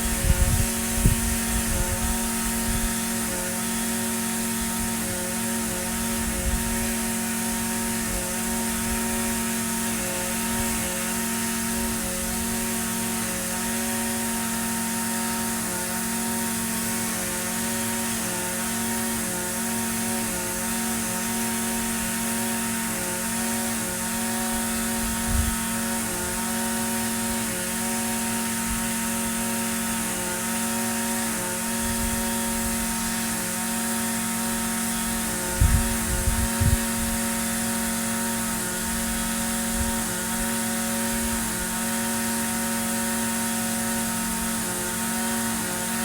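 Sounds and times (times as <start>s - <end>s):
string trimmer engine running: 0.0s - 46.0s.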